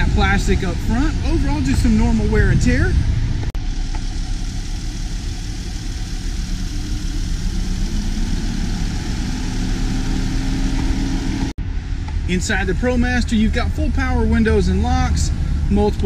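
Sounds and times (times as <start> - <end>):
van engine idling: 0.0 - 16.0.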